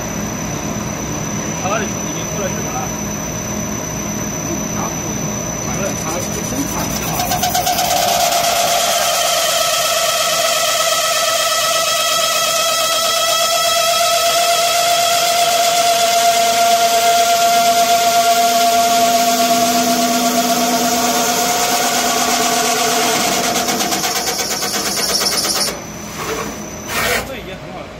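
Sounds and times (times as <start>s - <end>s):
metal spinning lathe whine: 0.0s - 27.8s.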